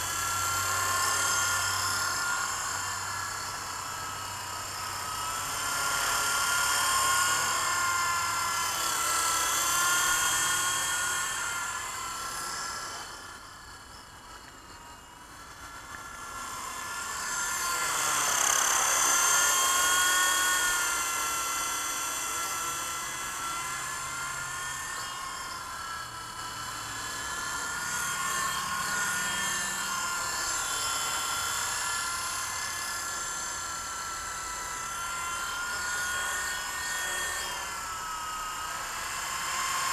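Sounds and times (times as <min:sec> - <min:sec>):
toy helicopter rotor whining: 0:00.0 - 0:39.9.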